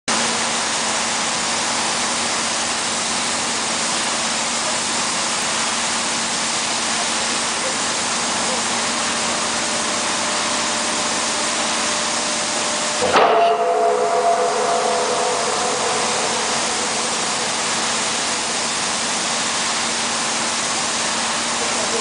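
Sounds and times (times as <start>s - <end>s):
construction machinery hiss: 0.1s - 22.0s.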